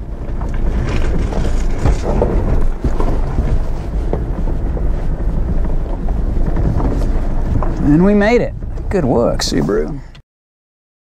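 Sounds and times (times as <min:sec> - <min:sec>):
knocks on rocky ground: 0:00.0 - 0:09.5
car engine low rumble: 0:00.0 - 0:10.2
wind buffeting microphone: 0:00.0 - 0:10.2.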